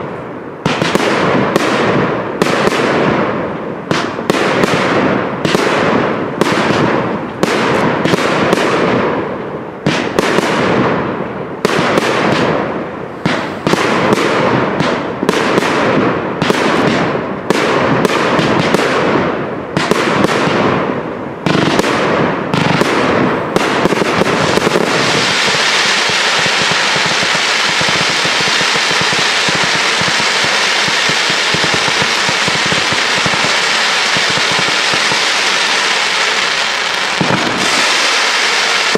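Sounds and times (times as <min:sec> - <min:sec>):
firework bangs with crackle: 0:00.0 - 0:38.9
hissing of rising fireworks: 0:00.0 - 0:38.9.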